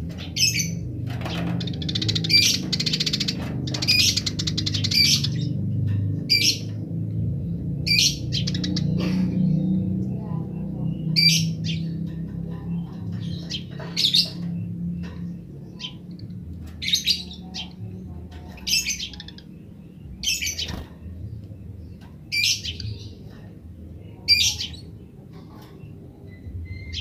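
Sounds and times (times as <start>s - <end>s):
sparrow chirping: 0.0s - 27.0s.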